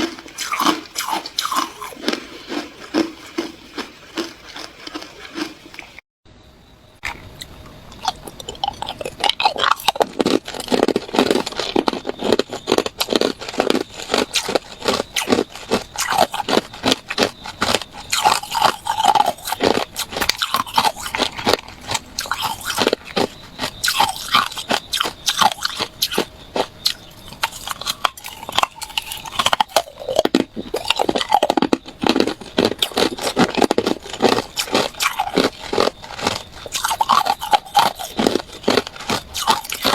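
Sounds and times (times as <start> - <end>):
person crunching ice: 0.0 - 6.0, 8.8 - 23.2, 23.8 - 39.9.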